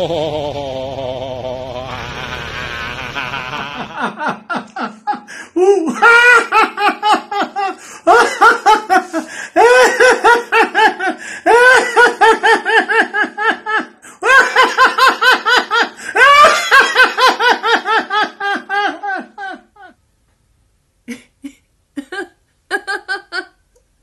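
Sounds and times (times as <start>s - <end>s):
man laughing heartily: 0.0s - 20.0s, 21.1s - 23.6s.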